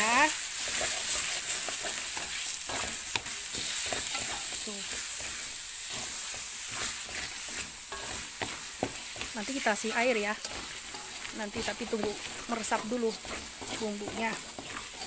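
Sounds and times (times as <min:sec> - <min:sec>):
chicken sizzling in oil: 0:00.0 - 0:15.0
spatula scraping and knocking pan: 0:00.6 - 0:15.0.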